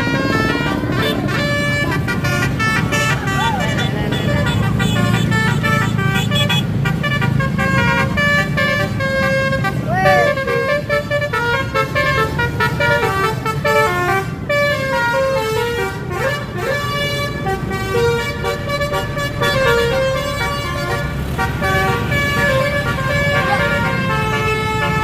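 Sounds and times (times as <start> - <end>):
multi-tone vehicle horn tune: 0.0 - 25.0.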